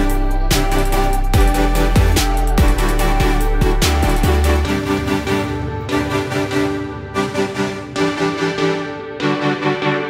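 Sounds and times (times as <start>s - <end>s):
cheerful background music: 0.0s - 10.0s.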